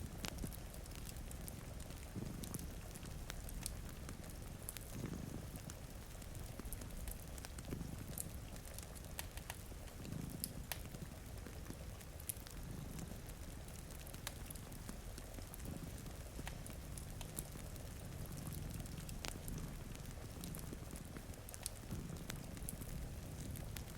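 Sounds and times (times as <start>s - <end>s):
cat purring: 0.0s - 23.9s
crackling fire pops: 0.0s - 23.9s.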